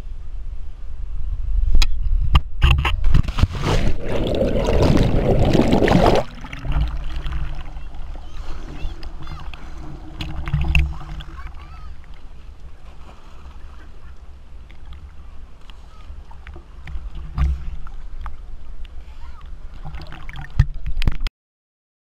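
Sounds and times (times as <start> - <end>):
sea water sloshing and splashing: 3.2 - 21.2.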